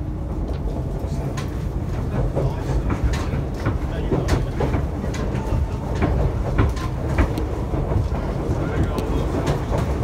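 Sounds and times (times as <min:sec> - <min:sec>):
railcar low rumble: 0:00.0 - 0:10.0
wheels clicking on track: 0:00.2 - 0:10.0.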